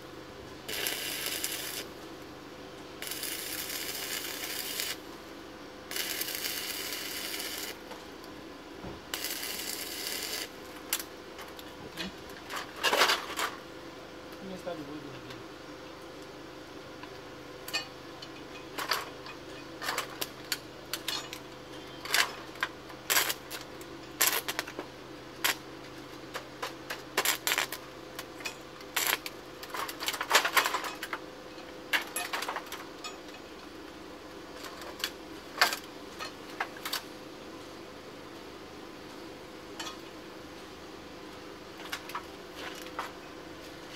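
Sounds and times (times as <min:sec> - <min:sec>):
faint hum: 0:00.0 - 0:43.9.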